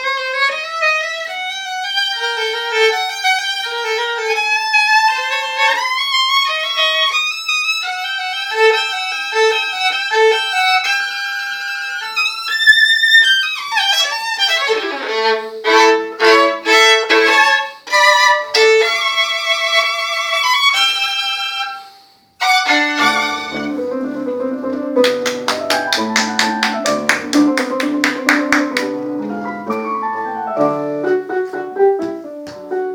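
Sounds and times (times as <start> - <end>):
violin playing: 0.0 - 31.9.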